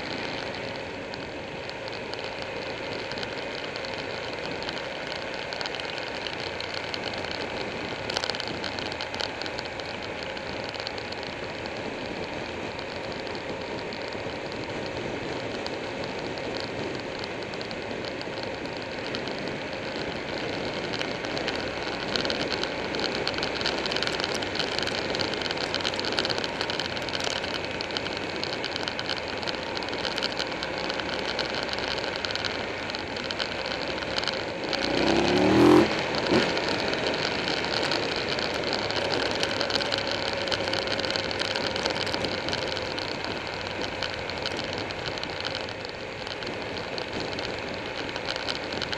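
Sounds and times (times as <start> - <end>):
motorcycle engine running: 0.0 - 48.9
wind rushing over camera: 0.0 - 48.9.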